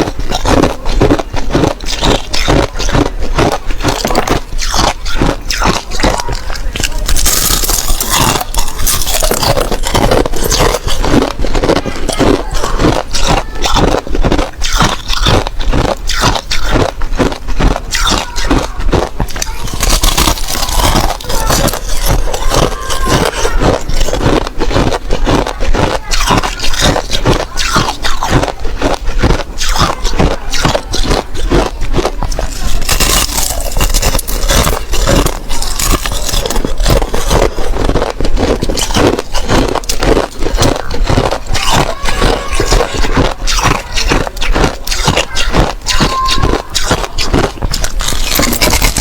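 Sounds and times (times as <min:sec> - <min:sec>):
ice being chewed: 0:00.0 - 0:49.0.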